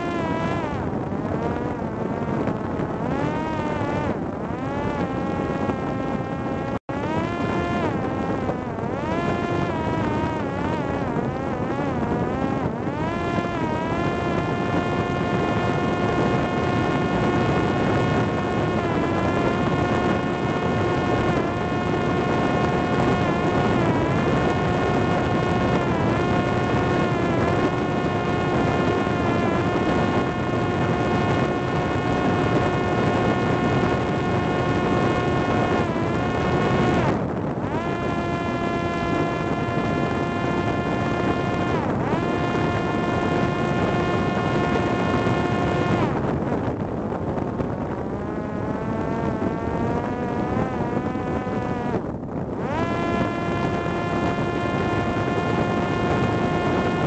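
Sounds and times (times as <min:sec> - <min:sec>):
drone motor high-pitched whine: 0:00.0 - 0:57.0
wind rush on microphone: 0:00.0 - 0:57.0.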